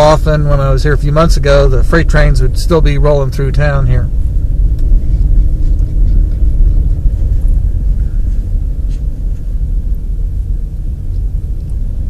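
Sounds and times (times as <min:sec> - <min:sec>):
car driving on snow: 0:00.0 - 0:12.0.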